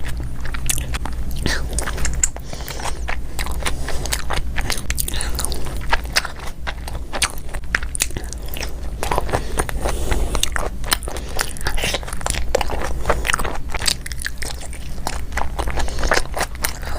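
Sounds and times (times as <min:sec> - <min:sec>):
person biting and chewing food: 0:00.0 - 0:16.9.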